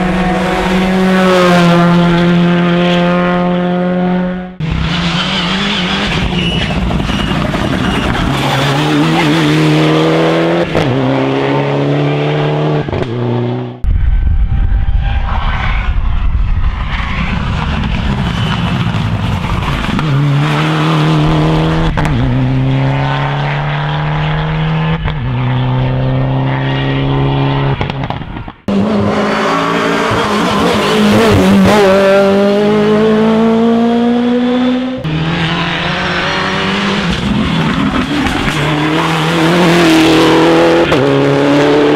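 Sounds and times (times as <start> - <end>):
rally car engine accelerating: 0.0 - 13.8, 17.1 - 41.9.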